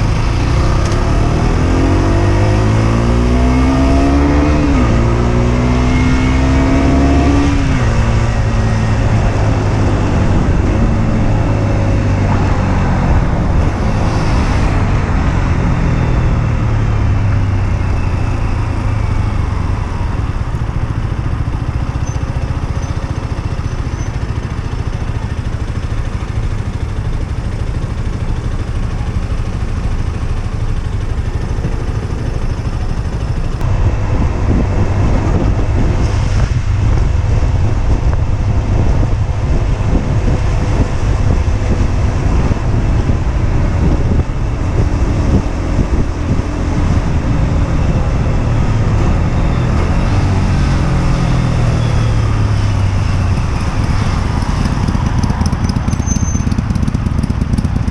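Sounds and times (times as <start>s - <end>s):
motorcycle engine revving: 0.0s - 57.9s
road noise: 0.0s - 57.9s
wind noise: 0.0s - 57.9s.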